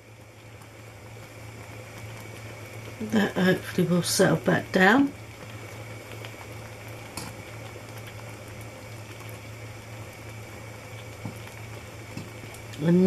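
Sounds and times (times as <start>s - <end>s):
low steady hum: 0.0s - 13.0s
thick mixture bubbling in a pan: 0.0s - 13.0s.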